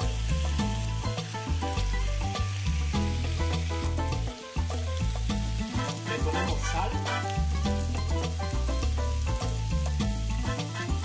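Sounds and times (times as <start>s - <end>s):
background music with bass: 0.0s - 11.0s
fish sizzling on grill pan: 0.0s - 11.0s.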